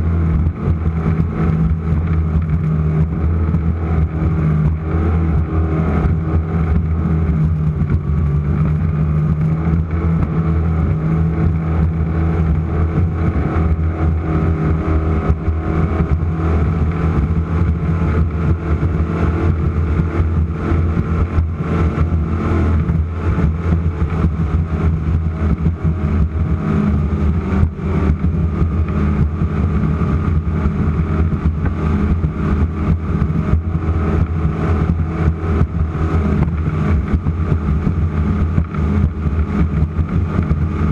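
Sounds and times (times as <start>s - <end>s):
boat engines droning: 0.0s - 40.9s.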